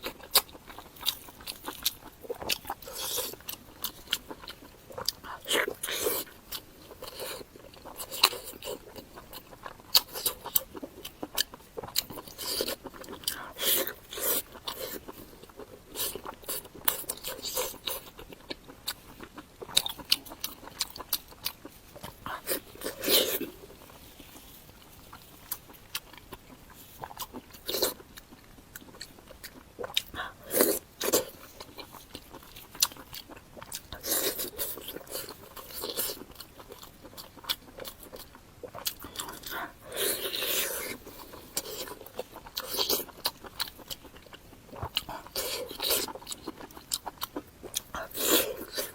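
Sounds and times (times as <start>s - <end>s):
person chewing meat: 0.0s - 48.9s.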